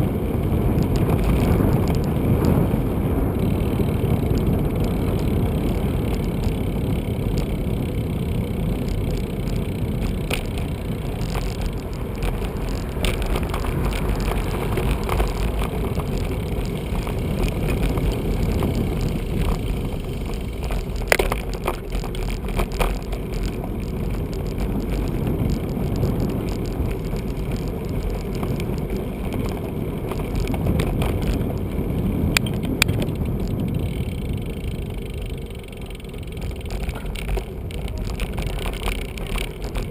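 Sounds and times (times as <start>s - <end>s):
bicycle tyre and road noise: 0.0s - 39.9s
wind on microphone: 0.0s - 39.9s
sharp clicks and rattles: 0.1s - 39.9s.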